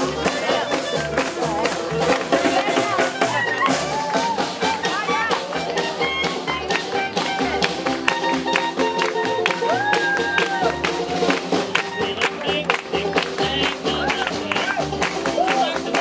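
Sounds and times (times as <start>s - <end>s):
crowd clapping along: 0.0s - 16.0s
swing band playing: 0.0s - 16.0s.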